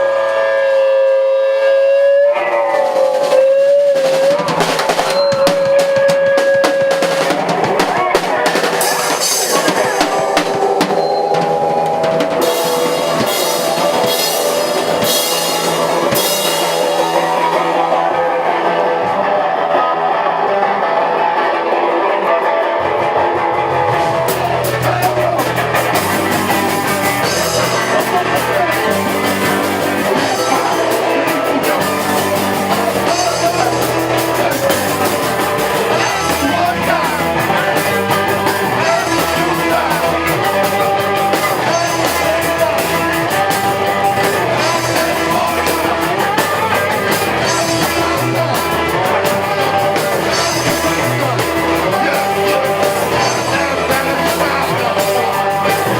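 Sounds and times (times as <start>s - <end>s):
drum kit: 0.0s - 55.9s
electric guitar: 0.0s - 55.9s
person singing: 0.0s - 55.9s.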